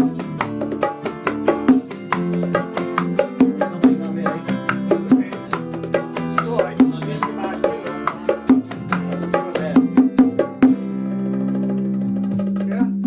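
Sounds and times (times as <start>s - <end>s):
bongos struck by hand: 0.0s - 13.0s
plucked guitar: 0.0s - 13.0s.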